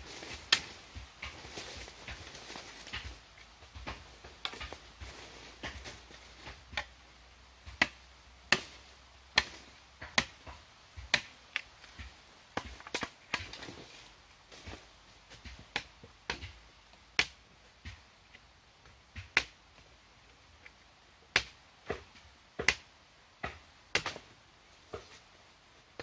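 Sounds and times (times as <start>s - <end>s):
machete chopping bamboo: 0.2s - 7.0s, 7.6s - 14.0s, 14.6s - 19.9s, 20.6s - 24.3s.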